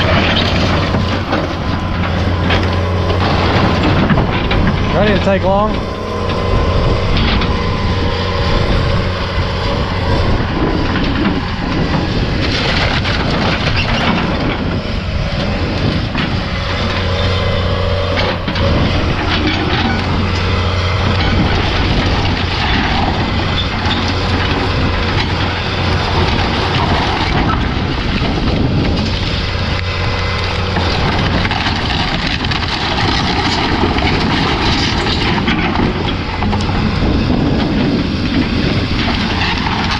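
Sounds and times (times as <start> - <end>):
diesel engine running under load: 0.0 - 39.9
timbers cracking and crunching: 0.0 - 39.9.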